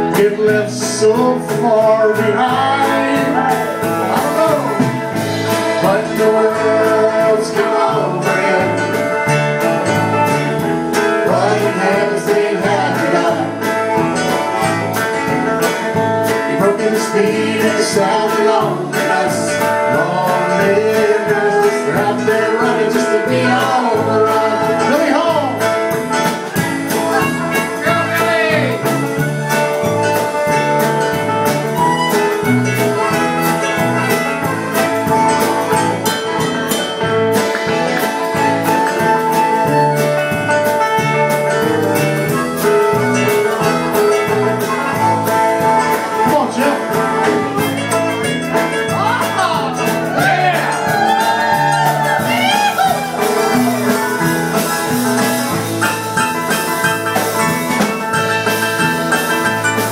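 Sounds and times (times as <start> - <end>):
bass: 0.0 - 59.9
strummed acoustic guitar: 0.0 - 59.9.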